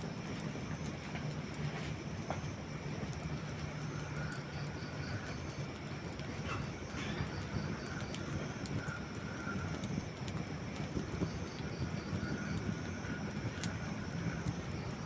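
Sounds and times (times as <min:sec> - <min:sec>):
campfire burning: 0:00.0 - 0:15.0.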